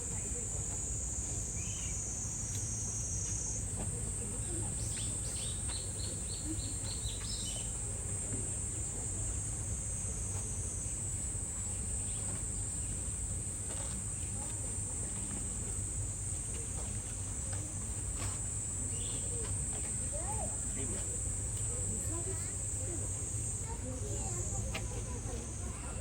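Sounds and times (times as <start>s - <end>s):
cicadas droning: 0.0s - 26.0s.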